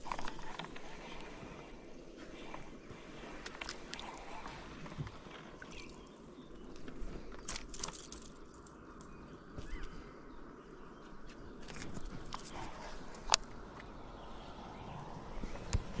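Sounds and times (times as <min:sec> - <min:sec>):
steady low background noise: 0:00.0 - 0:16.0.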